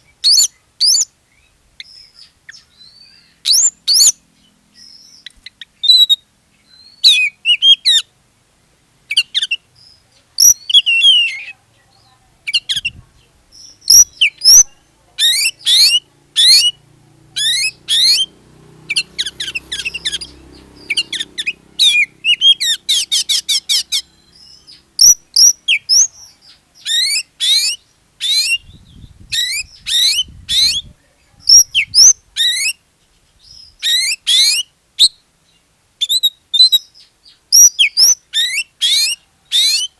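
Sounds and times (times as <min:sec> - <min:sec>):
magpie-robin singing: 0:00.0 - 0:08.1, 0:09.1 - 0:39.9.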